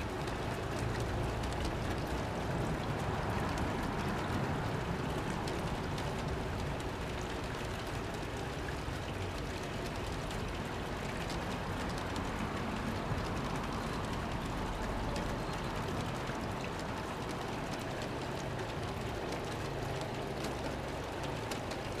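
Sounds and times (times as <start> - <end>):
wheels clicking on rails: 0.0 - 22.0.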